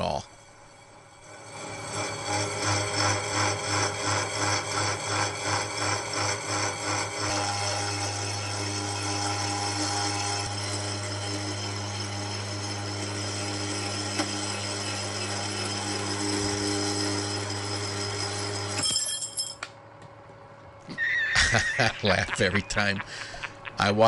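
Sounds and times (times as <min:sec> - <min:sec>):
saw cutting steel metallic ringing: 0:00.0 - 0:19.6
motor hum: 0:00.0 - 0:24.0.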